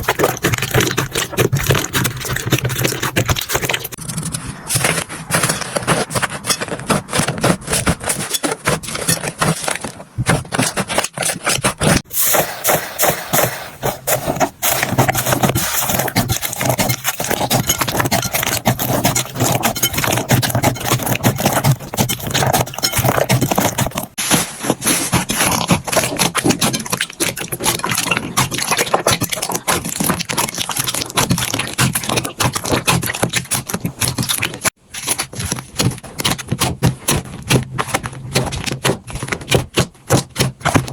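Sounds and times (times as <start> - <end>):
slime squelching by hand: 0.0 - 40.9.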